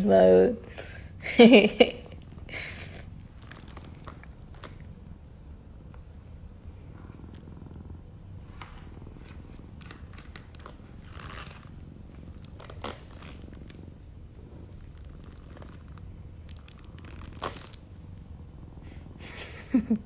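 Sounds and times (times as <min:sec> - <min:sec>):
cat purring: 0:00.0 - 0:20.0
small rustles and clicks: 0:01.4 - 0:18.8.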